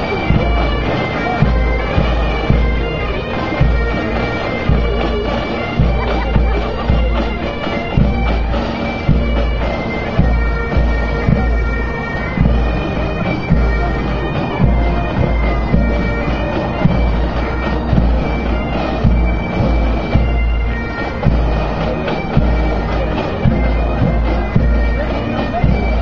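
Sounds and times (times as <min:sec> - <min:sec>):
bagpipes playing a march: 0:00.0 - 0:26.0.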